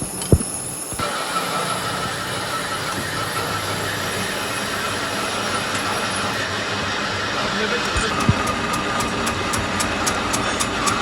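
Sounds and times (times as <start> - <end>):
workshop machinery running: 0.0 - 11.0.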